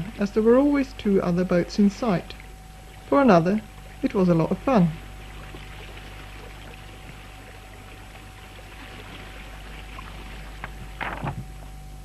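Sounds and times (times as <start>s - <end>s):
water washing past boat hulls: 0.0s - 12.0s.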